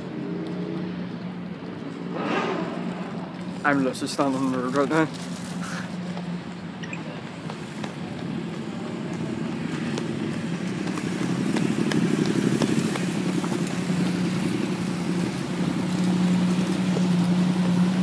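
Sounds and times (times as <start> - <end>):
supercar engines at low revs: 0.0 - 18.0.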